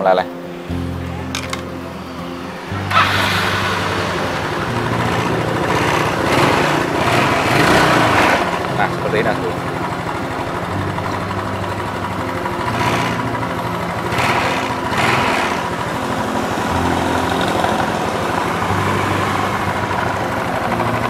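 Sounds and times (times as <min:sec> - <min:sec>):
scooter engine idling: 0:01.1 - 0:21.0.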